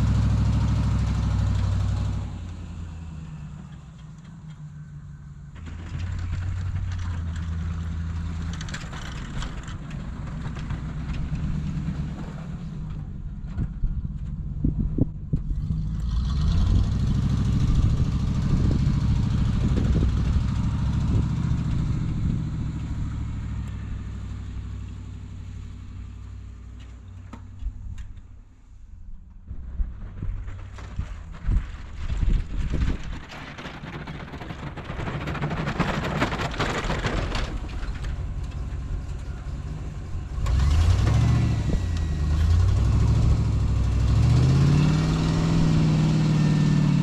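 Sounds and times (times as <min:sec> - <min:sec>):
truck engine running: 0:00.0 - 0:47.0.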